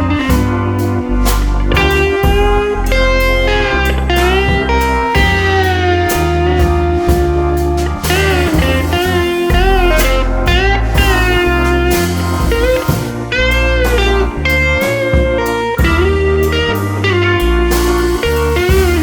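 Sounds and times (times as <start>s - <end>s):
lead guitar bending notes: 0.0s - 19.0s
low bass line: 0.0s - 19.0s.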